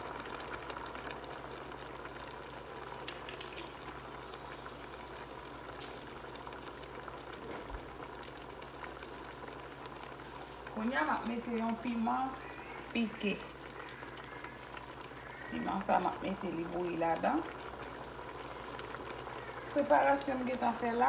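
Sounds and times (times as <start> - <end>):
stew bubbling in a pot: 0.0 - 21.0.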